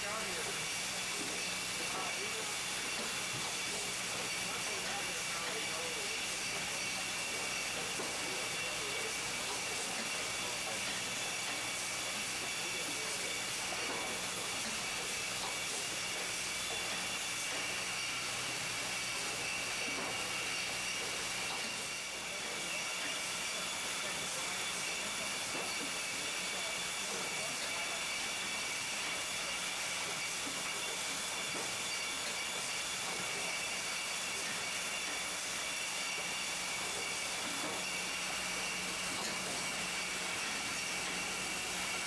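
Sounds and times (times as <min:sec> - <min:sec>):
machine hiss: 0:00.0 - 0:42.0.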